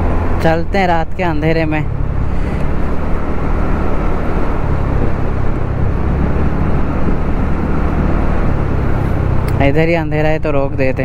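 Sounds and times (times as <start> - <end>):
wind rush on microphone: 0.0 - 11.0.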